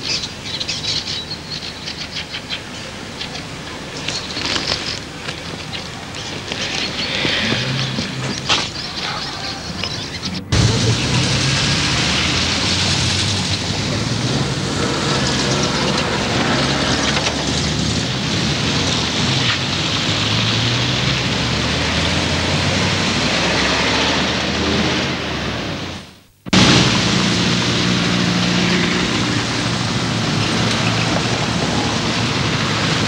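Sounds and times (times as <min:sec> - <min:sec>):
vehicles driving past on wet cobbles: 0:00.0 - 0:33.0.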